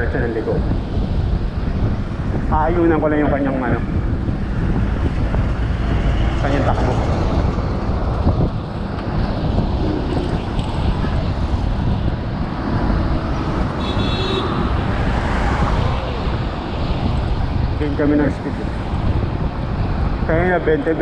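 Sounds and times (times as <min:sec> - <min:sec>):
bike tyre and road noise: 0:00.0 - 0:21.0
passing traffic: 0:00.0 - 0:21.0
wind buffeting microphone: 0:00.0 - 0:21.0.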